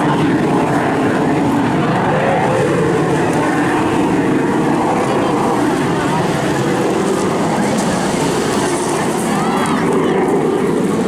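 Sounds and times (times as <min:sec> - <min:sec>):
jet aircraft in flight: 0:00.0 - 0:11.0.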